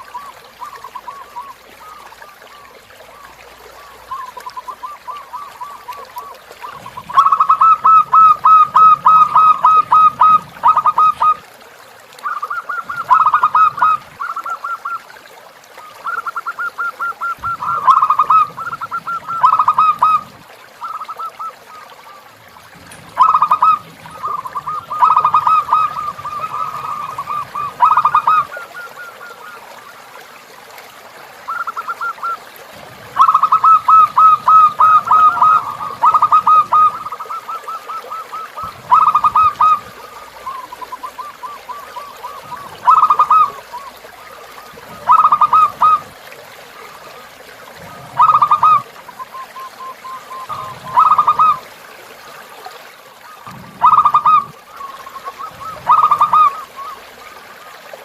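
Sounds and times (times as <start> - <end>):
dove cooing: 0.0 - 3.2, 3.8 - 11.5, 12.2 - 15.1, 16.0 - 30.0, 33.1 - 46.3, 47.8 - 51.7, 53.4 - 57.1
river water flowing: 0.0 - 58.0.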